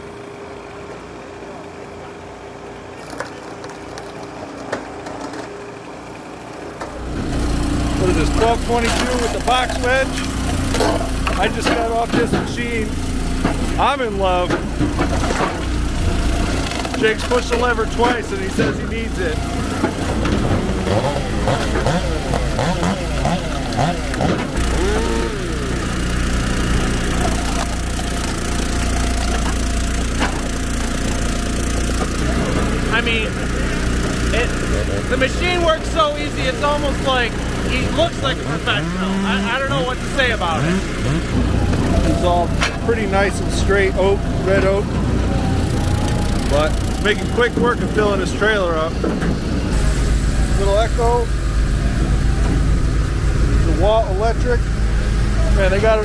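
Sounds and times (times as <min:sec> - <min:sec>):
log splitter engine running: 0:00.0 - 0:56.0.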